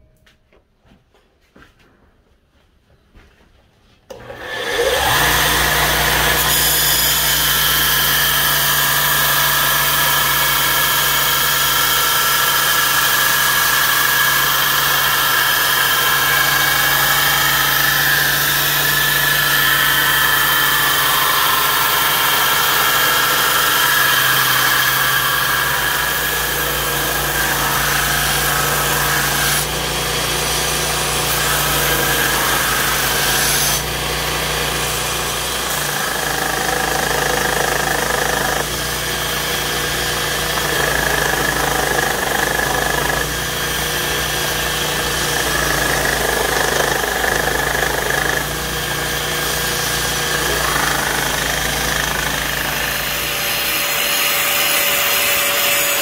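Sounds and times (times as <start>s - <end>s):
belt grinder motor hum: 4.1s - 56.0s
abrasive belt grinding steel: 4.2s - 56.0s.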